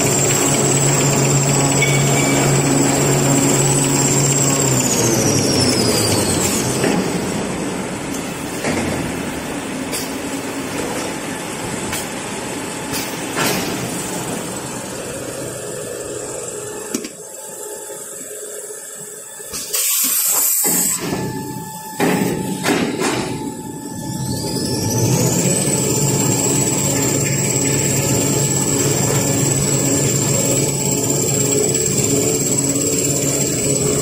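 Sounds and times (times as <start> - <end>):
production machinery running: 0.0 - 34.0.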